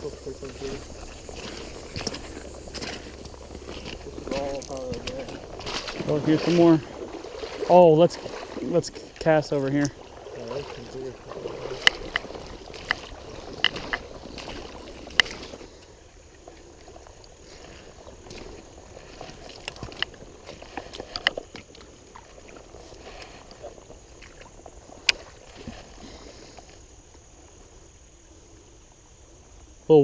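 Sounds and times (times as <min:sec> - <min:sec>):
river water splashing around legs: 0:00.0 - 0:27.8.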